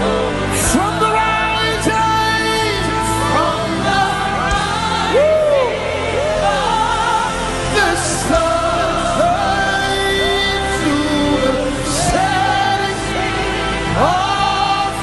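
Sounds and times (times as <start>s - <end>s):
gospel singing with keyboard: 0.0s - 15.0s.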